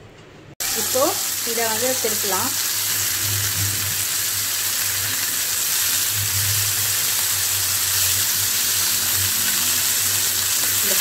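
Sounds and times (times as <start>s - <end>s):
chicken sizzling in oil: 0.6s - 11.0s.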